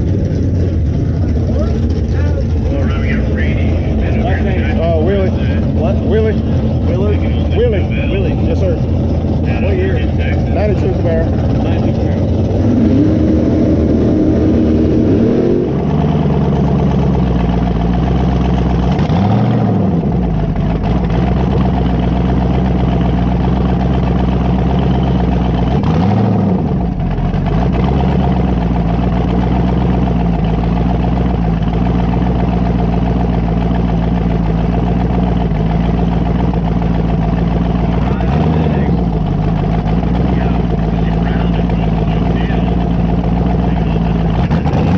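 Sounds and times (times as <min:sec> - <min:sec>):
engine idling with throttle blips: 0:00.0 - 0:44.9.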